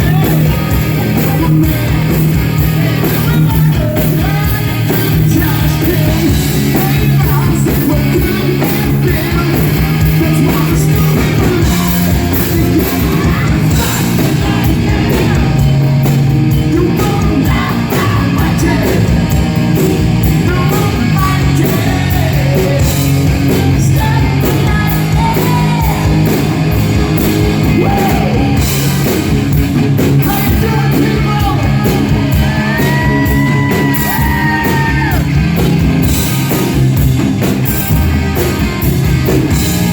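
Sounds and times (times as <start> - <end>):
man singing: 0.0 - 26.4, 27.4 - 29.1, 30.0 - 35.3
bass and drums: 0.0 - 39.9
distorted electric guitars: 0.0 - 39.9.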